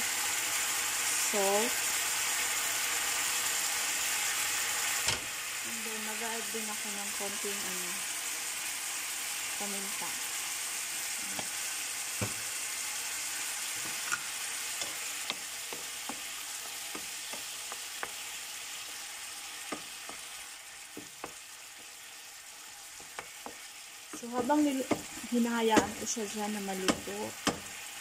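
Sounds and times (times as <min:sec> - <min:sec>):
chicken sizzling in frying pan: 0:00.0 - 0:28.0.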